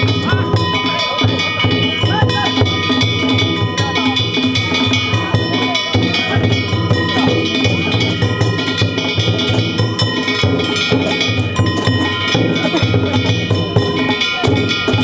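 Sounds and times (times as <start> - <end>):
hand gongs clanging: 0.0 - 15.0
taiko drum beating fast rhythm: 0.0 - 15.0.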